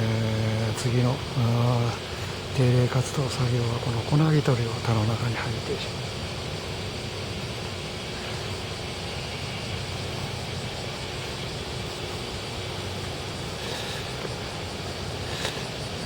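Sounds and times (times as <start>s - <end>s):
outdoor background rumble and hiss: 0.0s - 16.0s.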